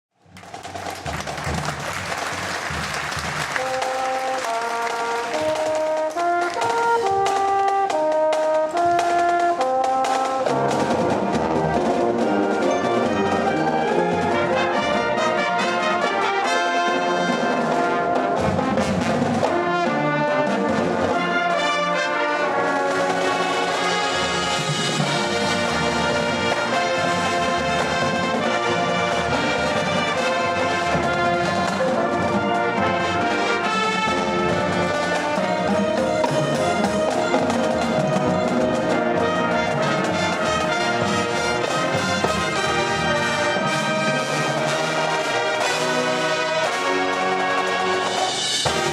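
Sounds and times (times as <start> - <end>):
drums: 0.1 - 48.9
marching band playing a march: 0.2 - 48.9
held brass notes: 1.0 - 48.9.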